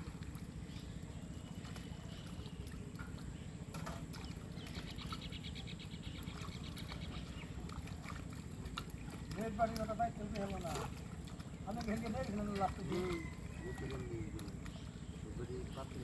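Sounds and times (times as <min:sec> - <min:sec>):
pond water trickling and splashing: 0:00.0 - 0:16.0.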